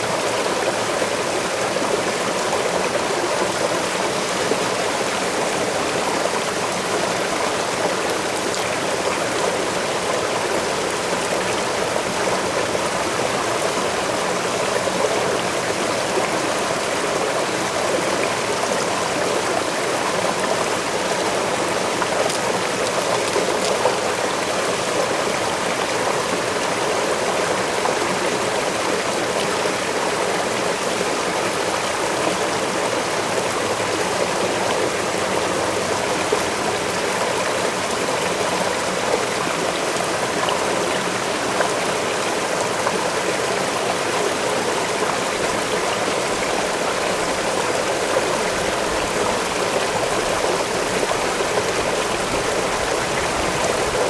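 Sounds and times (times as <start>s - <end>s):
waterfall and stream rushing: 0.0s - 54.0s.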